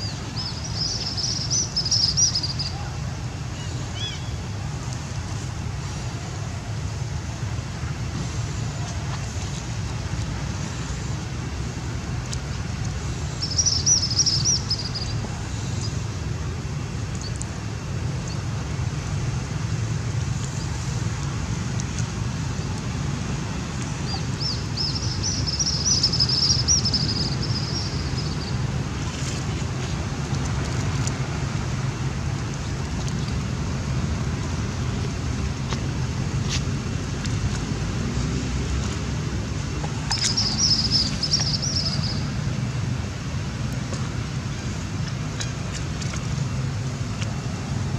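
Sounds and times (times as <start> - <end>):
low outdoor rumble: 0.0 - 47.9.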